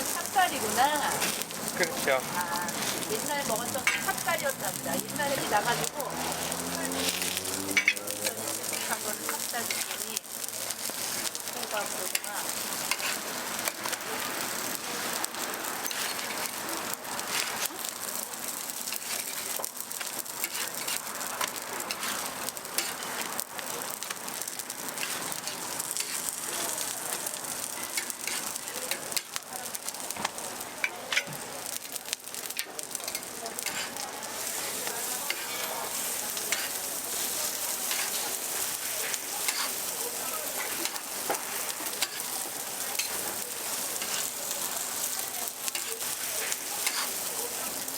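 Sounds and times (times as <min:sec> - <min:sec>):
oil sizzling on a griddle: 0:00.0 - 0:47.9
sharp crackles and ticks: 0:00.0 - 0:47.9.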